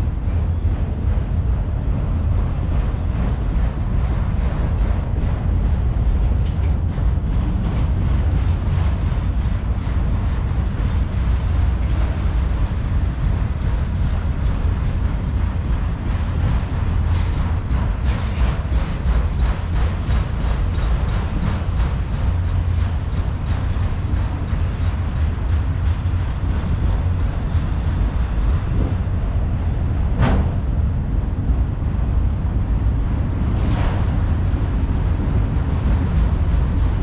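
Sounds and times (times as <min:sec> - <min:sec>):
freight train wheels rumbling: 0:00.0 - 0:37.0.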